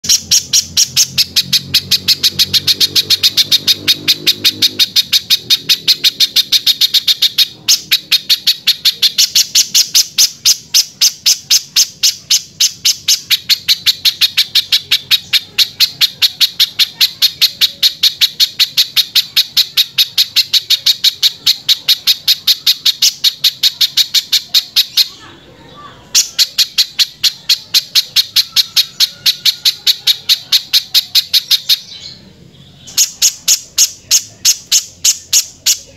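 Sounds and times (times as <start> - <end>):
bird singing sharp repeated notes: 0.0 - 35.9.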